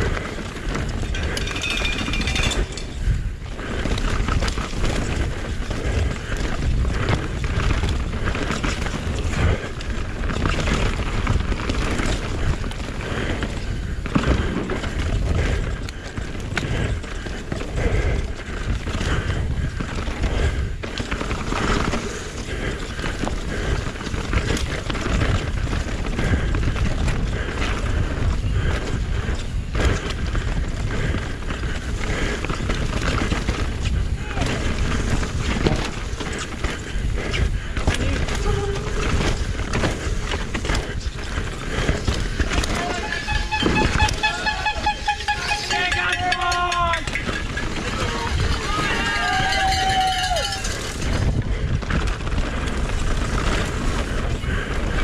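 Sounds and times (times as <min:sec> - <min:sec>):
bike knocks and rattles: 0:00.0 - 0:55.0
tyres rumbling over ground: 0:00.0 - 0:55.0
wind buffeting microphone: 0:00.0 - 0:55.0.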